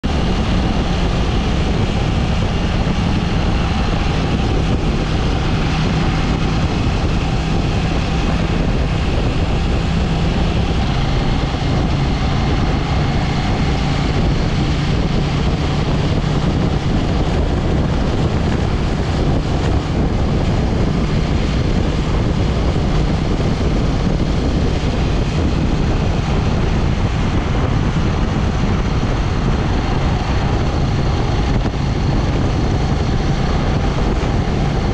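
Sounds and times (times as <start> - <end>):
motorcycle engine cruising: 0.0 - 34.9
wind and road noise: 0.0 - 34.9.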